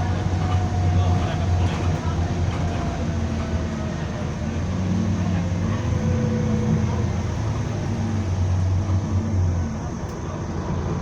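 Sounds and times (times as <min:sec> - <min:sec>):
bus engine drone from inside: 0:00.0 - 0:11.0.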